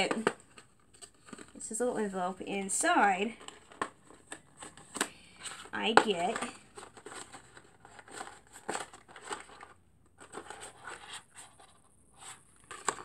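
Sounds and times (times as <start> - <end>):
paper envelope rustling: 0.0 - 13.0.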